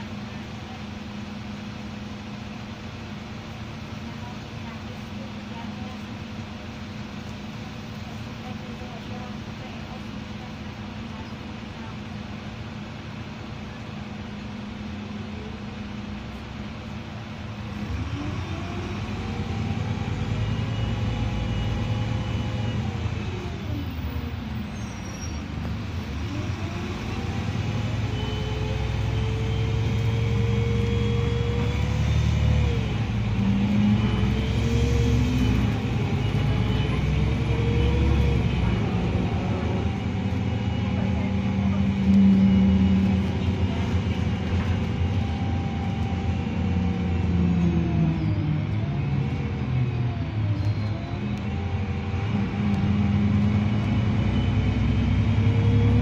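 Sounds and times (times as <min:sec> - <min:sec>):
bus diesel engine accelerating: 0:00.0 - 0:56.0
road noise: 0:00.0 - 0:56.0.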